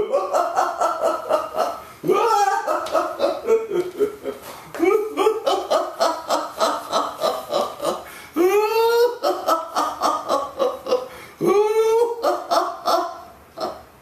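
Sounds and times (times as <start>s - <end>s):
man laughing in cartoon voice: 0.0s - 13.8s.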